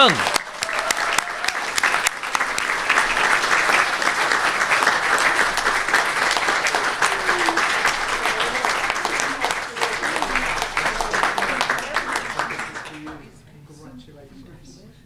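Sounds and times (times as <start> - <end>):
audience applause: 0.0 - 13.3.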